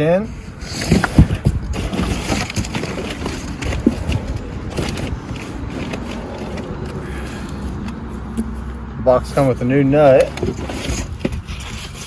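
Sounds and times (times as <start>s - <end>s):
steady low rumble: 0.4s - 11.5s
metal parts knocking and scraping: 0.6s - 8.8s, 9.4s - 12.0s.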